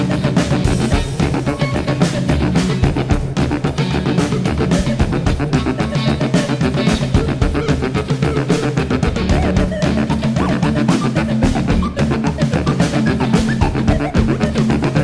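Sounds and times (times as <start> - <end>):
busy drumming: 0.0 - 15.0
low sustained saxophone: 0.0 - 15.0
plucked guitar: 0.0 - 15.0.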